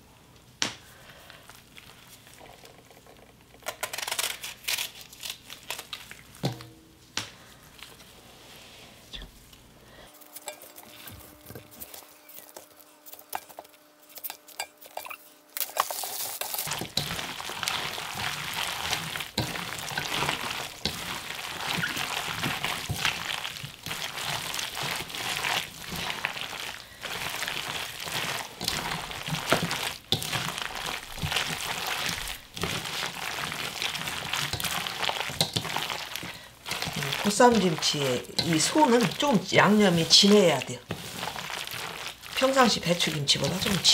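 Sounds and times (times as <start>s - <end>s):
cabbage squishing in bowl: 1.3s - 8.2s, 10.1s - 43.9s.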